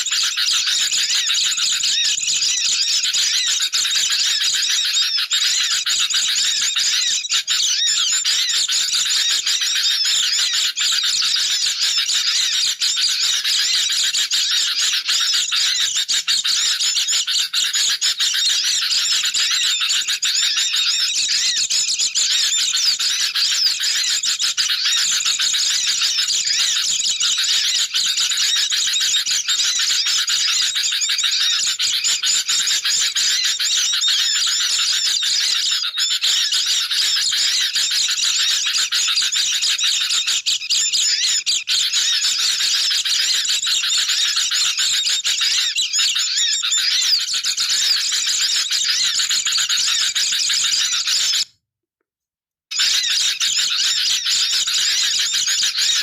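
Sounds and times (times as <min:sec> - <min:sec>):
small birds chattering: 0:00.0 - 0:51.5.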